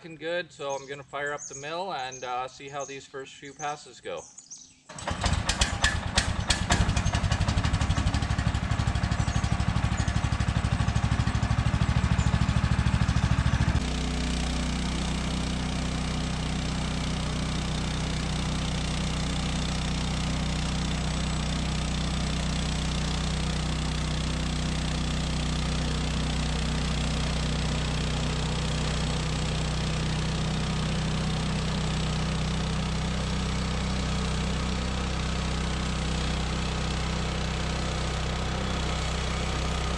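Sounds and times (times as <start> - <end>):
sawmill gasoline engine running: 4.9 - 39.9.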